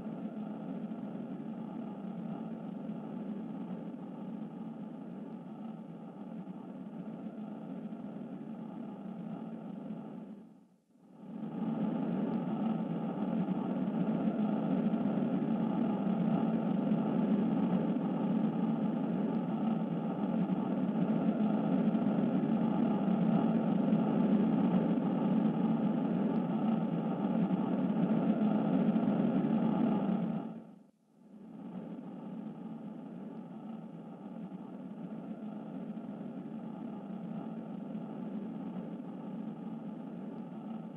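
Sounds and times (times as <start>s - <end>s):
steady engine-like drone: 0.0s - 40.9s.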